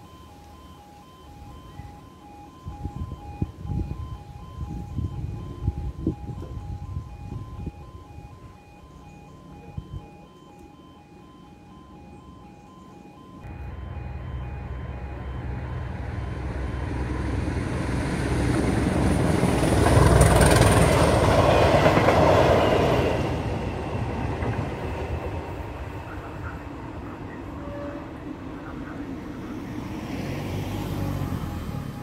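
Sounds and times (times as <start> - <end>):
train passing rumble: 0.0 - 32.0.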